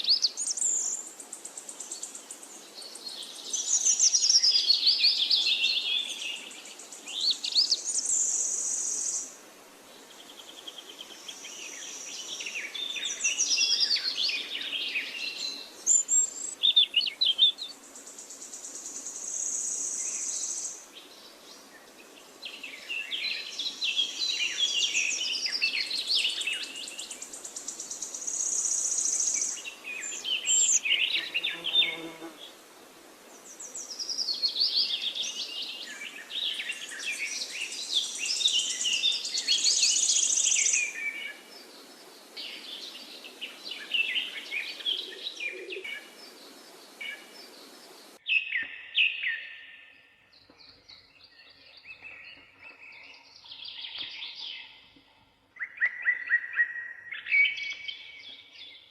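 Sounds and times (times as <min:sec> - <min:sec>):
songbirds chirping and singing: 0:00.0 - 0:09.3, 0:10.0 - 0:32.6, 0:33.3 - 0:58.9
background hiss: 0:00.0 - 0:48.6.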